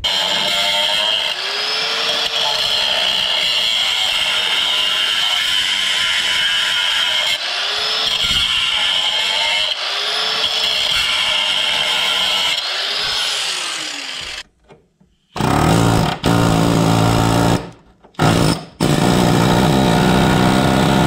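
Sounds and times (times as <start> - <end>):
angle grinder cutting metal: 0.0 - 14.5, 15.3 - 21.0.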